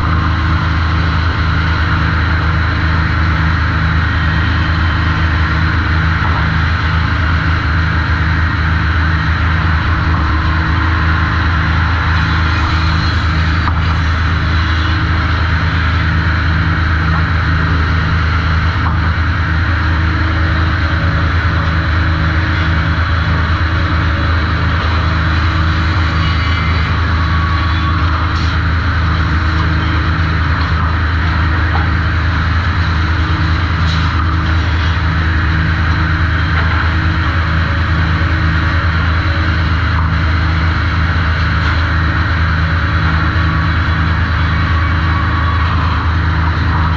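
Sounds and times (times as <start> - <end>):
sawmill motor hum: 0.0 - 46.9.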